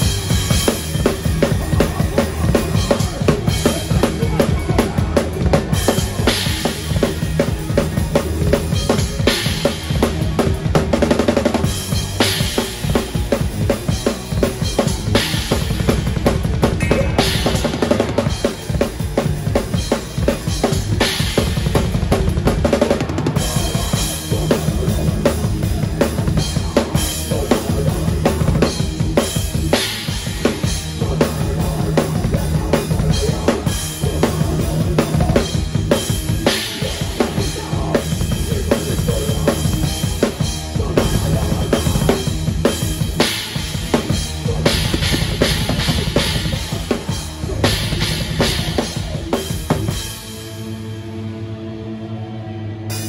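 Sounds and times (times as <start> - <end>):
rapid bass drum strokes: 0.0 - 50.5
guitar: 0.0 - 53.0.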